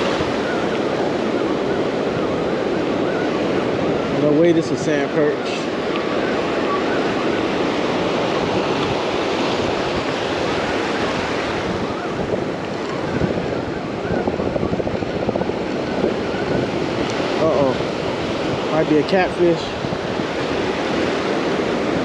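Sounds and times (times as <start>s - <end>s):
surf washing in shallow water: 0.0s - 22.0s
wind buffeting microphone: 0.0s - 22.0s.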